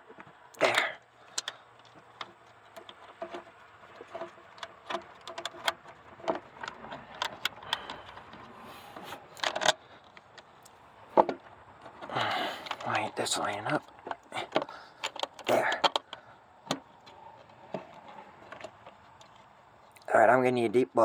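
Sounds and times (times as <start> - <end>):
small metallic clicks and taps: 1.2 - 12.0, 13.7 - 20.1.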